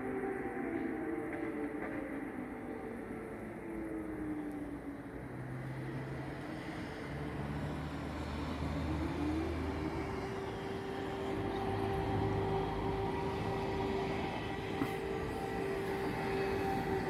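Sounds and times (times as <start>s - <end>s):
air raid siren wailing: 0.0s - 17.0s.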